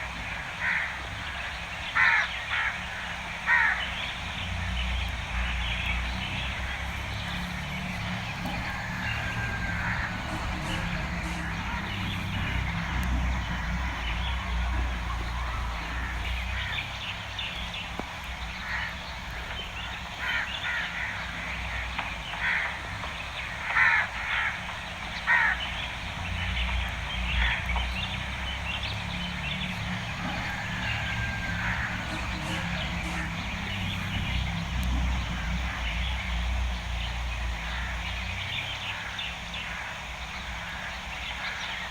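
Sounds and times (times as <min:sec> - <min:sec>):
steady low rumble: 0:02.9 - 0:41.5.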